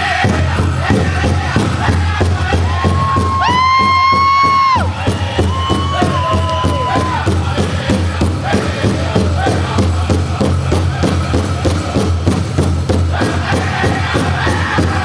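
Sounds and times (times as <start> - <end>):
men singing high: 0.0 - 12.2, 13.0 - 15.0
fast drum beat: 0.0 - 15.0.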